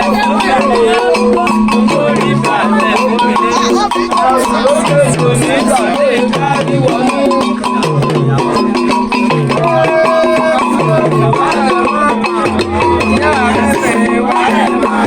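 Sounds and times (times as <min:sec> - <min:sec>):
music with percussion and bass: 0:00.0 - 0:15.0.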